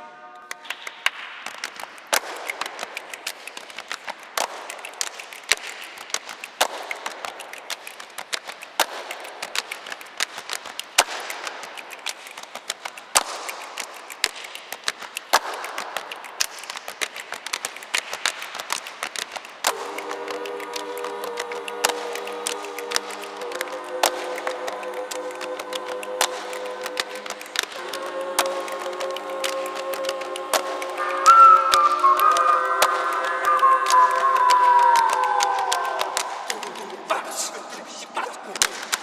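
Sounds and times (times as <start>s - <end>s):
people clapping hands: 0.0s - 39.0s.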